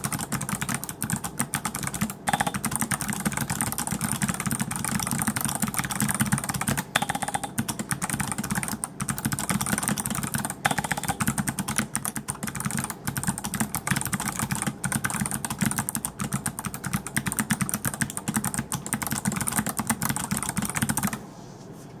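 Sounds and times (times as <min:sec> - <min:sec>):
mechanical keyboard typing clicks: 0:00.0 - 0:21.2.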